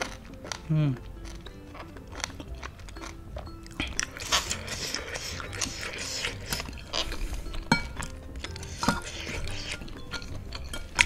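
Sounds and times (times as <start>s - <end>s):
close chewing with mouth noises: 0.0s - 11.0s.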